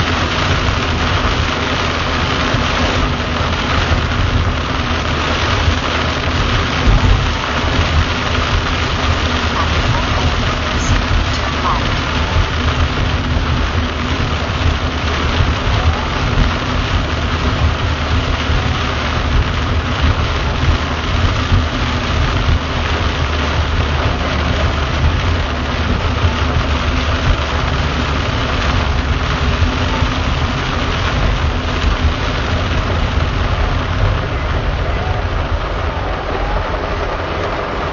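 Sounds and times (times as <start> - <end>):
car driving on wet road: 0.0 - 37.9
heavy rain on car: 0.0 - 37.9.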